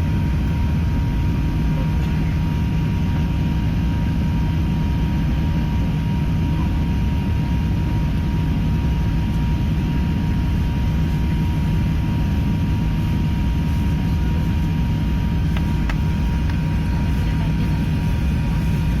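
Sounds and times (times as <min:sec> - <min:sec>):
airliner engine rumble in flight: 0:00.0 - 0:19.0
faint steady whine: 0:00.0 - 0:19.0.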